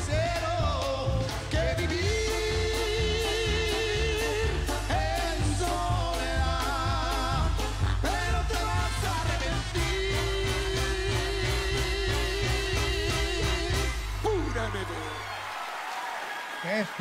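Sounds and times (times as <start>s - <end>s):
brass band playing: 0.0s - 15.3s.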